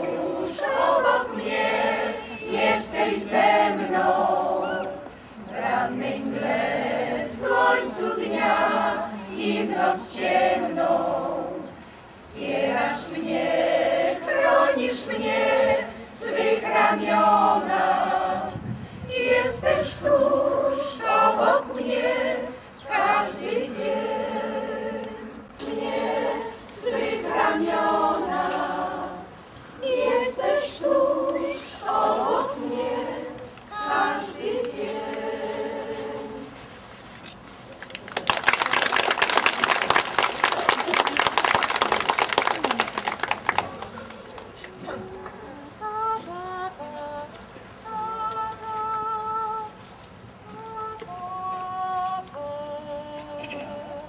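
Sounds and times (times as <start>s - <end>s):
choir singing a cappella: 0.0s - 36.6s, 44.8s - 49.8s, 50.5s - 54.0s.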